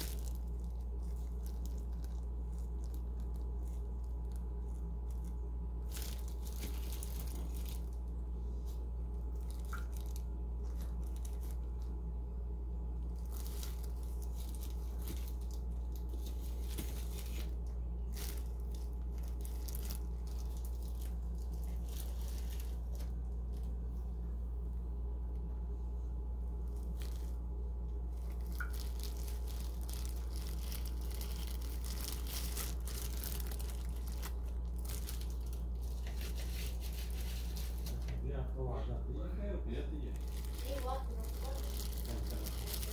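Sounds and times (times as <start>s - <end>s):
plastic glove crinkling: 0.0s - 24.3s, 26.3s - 38.2s, 40.1s - 42.9s
steady low hum: 0.0s - 42.9s.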